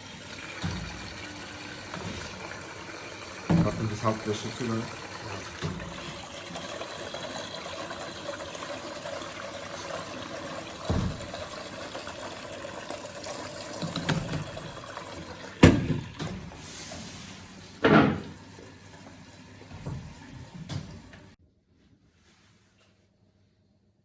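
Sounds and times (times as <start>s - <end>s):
water sloshing in washing machine: 0.0s - 21.4s.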